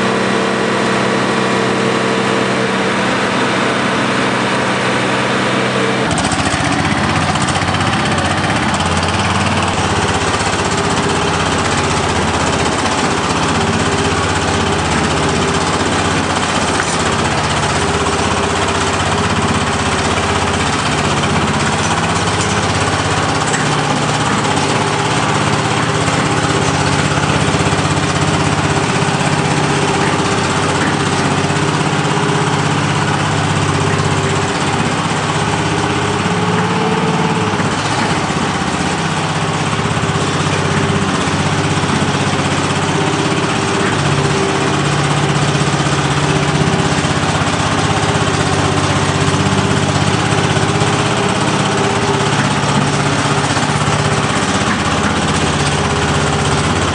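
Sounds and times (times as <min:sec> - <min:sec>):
small engine droning: 0:00.0 - 0:56.9.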